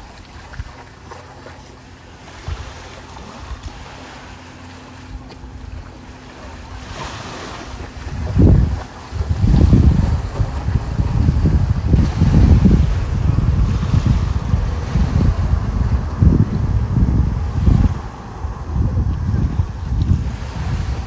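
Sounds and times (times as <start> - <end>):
water at the shore: 0.0 - 21.0
wind buffeting microphone: 0.0 - 21.0.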